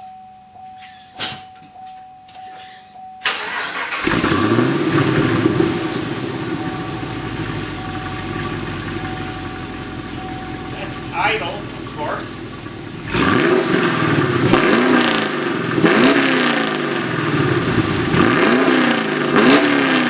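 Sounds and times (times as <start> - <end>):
car engine revving and idling: 3.3 - 20.0.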